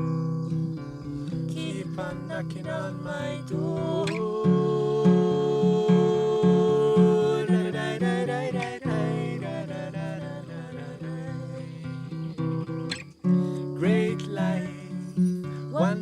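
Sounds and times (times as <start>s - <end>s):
acoustic guitar strumming: 0.0s - 16.0s
person singing: 1.3s - 12.4s, 13.5s - 16.0s.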